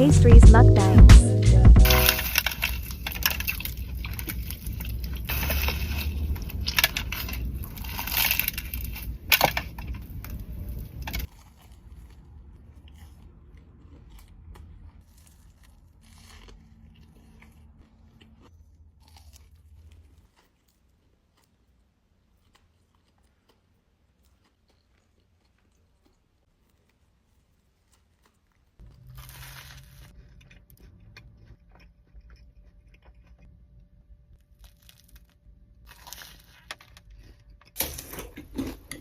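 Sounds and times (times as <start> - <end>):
crunchy pastry bites: 1.8 - 33.6, 34.3 - 39.0
quieter chewing: 1.8 - 39.0.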